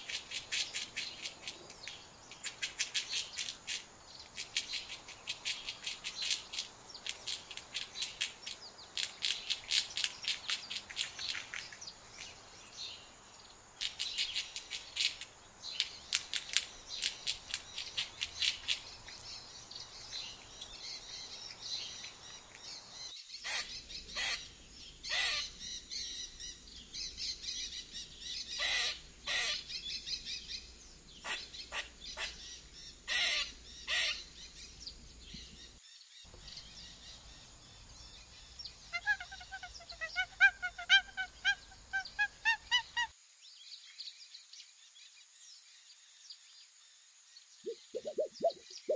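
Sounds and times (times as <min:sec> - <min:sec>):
squirrels chirping and chattering: 0:00.0 - 0:13.0, 0:13.8 - 0:43.1, 0:47.7 - 0:48.9.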